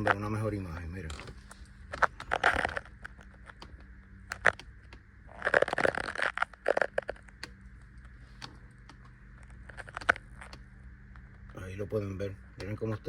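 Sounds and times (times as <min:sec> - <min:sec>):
crackling and clicking of parts: 0:00.0 - 0:13.0.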